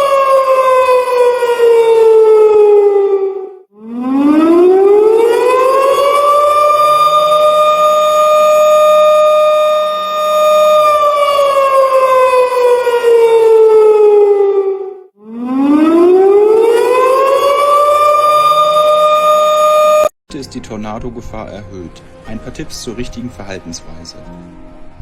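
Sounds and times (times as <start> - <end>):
warning siren wailing: 0.0 - 20.1.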